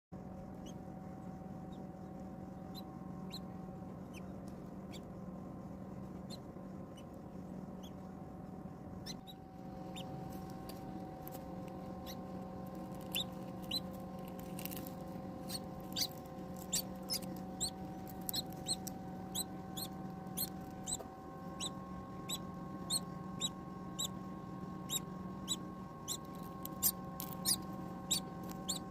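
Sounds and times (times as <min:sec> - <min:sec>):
steady electrical hum: 0:00.1 - 0:28.9
parrot chick cheeping: 0:00.4 - 0:08.2, 0:08.8 - 0:28.9.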